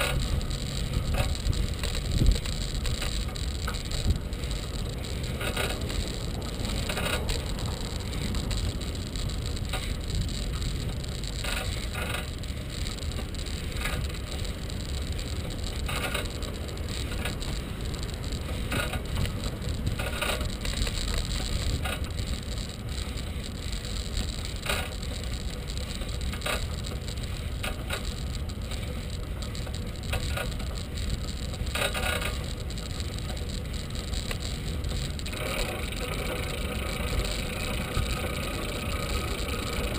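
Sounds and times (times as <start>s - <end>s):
bike rattles and knocks: 0.0s - 39.9s
tyres rolling on pavement: 0.0s - 39.9s
wind rumble on microphone: 0.0s - 39.9s.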